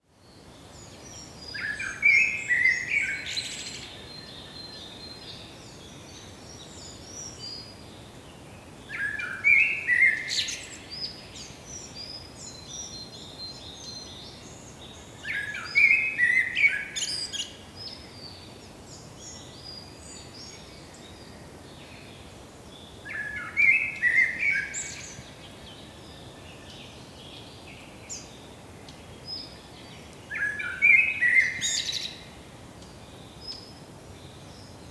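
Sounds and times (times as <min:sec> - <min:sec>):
background hiss: 0:00.1 - 0:34.9
songbird singing: 0:00.1 - 0:34.9.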